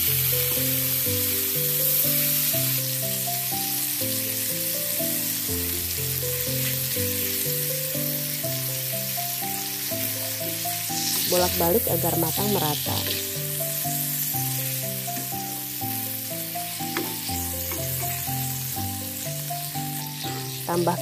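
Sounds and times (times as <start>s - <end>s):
background music with held notes: 0.0s - 21.0s
chicken sizzling in a frying pan: 0.0s - 21.0s.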